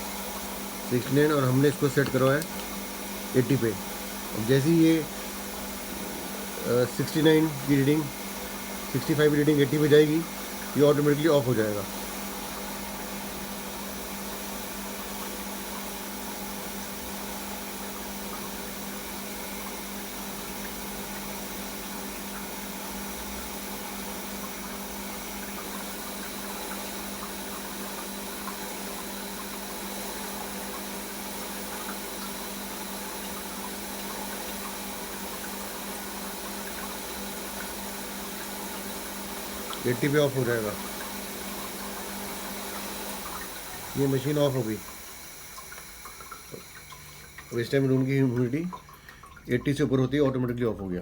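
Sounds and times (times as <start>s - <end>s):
humidifier hum: 0.0s - 51.0s.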